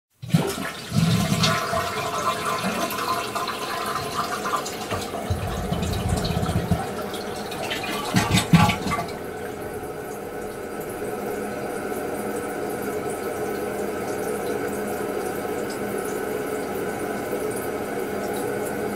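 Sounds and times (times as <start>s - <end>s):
toilet flushing: 0.1s - 18.9s.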